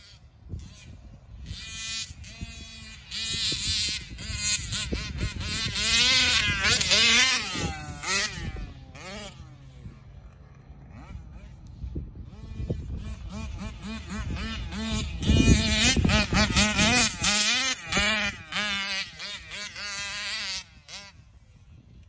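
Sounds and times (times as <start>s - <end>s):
small two-stroke engine revving: 0.0s - 21.8s.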